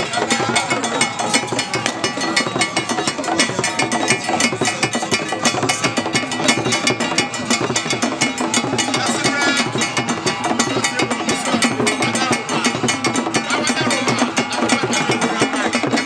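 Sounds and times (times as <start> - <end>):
crowd voices: 0.0 - 16.0
drumming: 0.0 - 16.0
wooden clapper percussion: 0.0 - 16.0.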